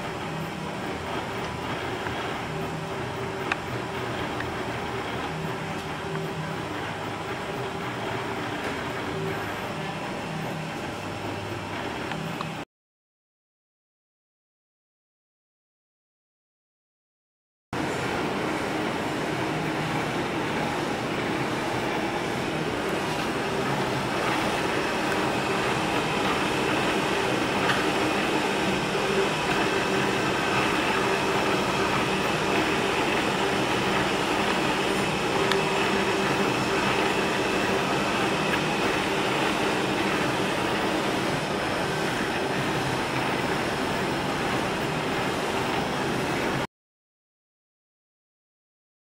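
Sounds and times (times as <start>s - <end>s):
three d printer whirring: 0.0s - 12.6s, 17.8s - 46.7s.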